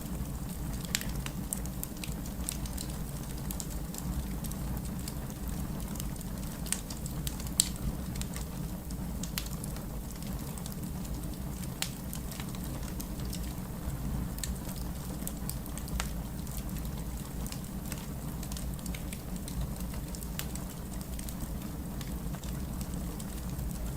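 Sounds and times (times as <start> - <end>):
wood fire crackling and popping: 0.0 - 23.9.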